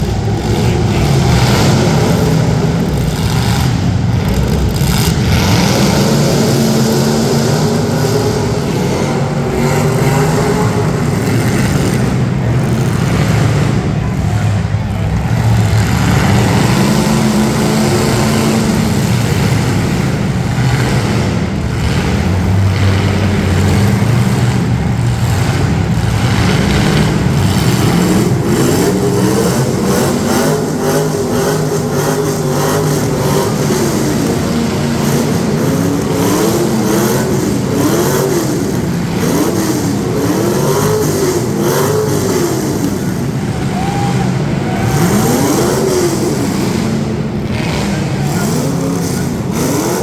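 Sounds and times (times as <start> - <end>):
car engines running: 0.0 - 50.0
engine revving up and down: 0.0 - 50.0.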